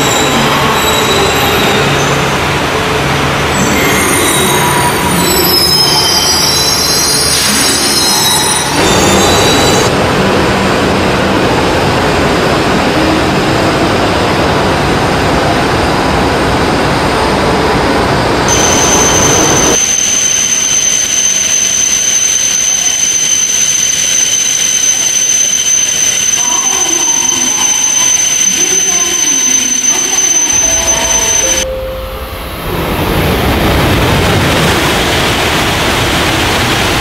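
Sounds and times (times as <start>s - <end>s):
train hum with high whine: 0.0s - 37.0s
train running rush: 0.0s - 37.0s.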